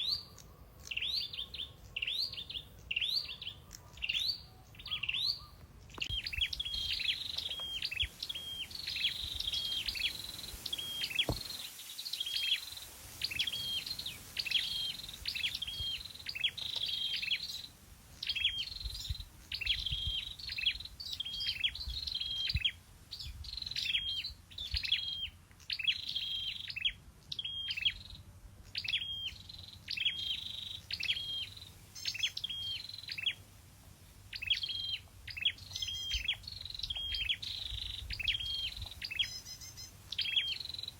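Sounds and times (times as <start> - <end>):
bird singing high chipping notes: 0.0 - 33.4, 34.3 - 40.9.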